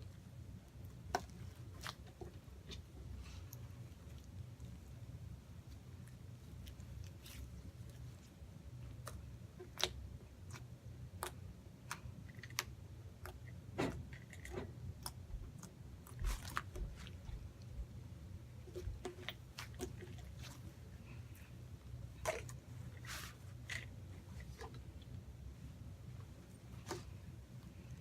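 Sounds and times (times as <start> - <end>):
low steady hum: 0.0 - 28.0
hands squishing slime: 0.5 - 28.0.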